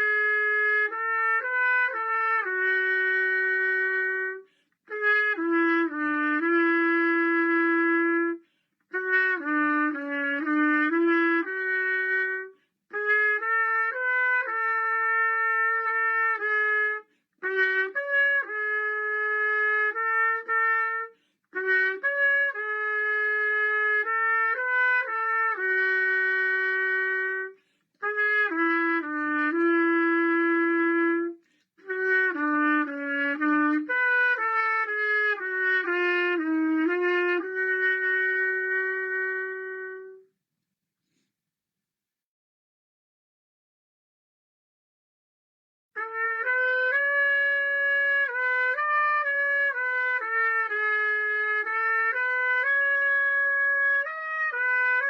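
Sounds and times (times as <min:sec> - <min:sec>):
solo trumpet playing slow melody: 0:00.0 - 0:40.3, 0:46.0 - 0:55.0.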